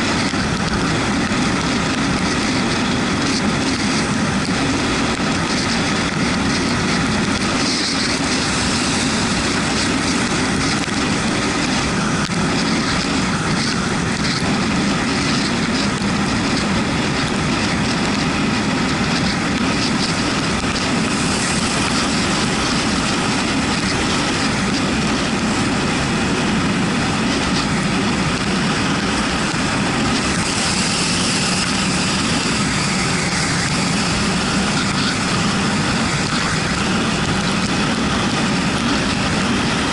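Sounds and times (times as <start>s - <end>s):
motorcycle engine running: 0.0s - 39.9s
wet road spray and wind hiss: 0.0s - 39.9s.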